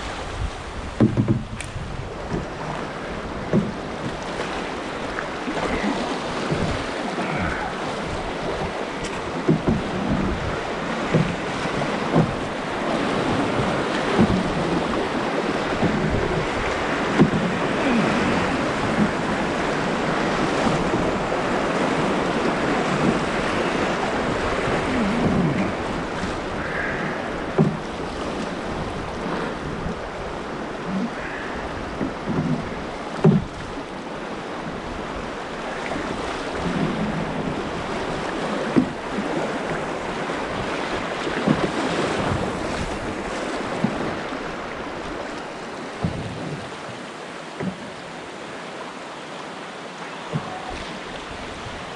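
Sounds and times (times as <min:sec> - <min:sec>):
water splashes: 0:00.0 - 0:51.9
whitewater rushing: 0:00.0 - 0:51.9.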